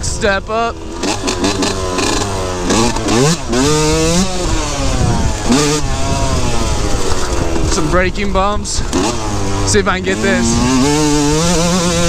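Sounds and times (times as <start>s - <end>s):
two-stroke engine revving: 0.0s - 12.0s
wind noise: 1.7s - 12.0s.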